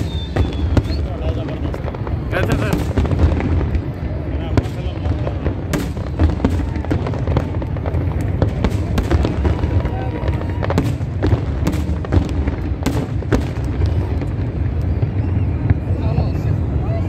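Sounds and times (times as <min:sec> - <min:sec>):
continuous low rumble: 0:00.0 - 0:17.0
fireworks bangs and crackles: 0:00.0 - 0:17.0.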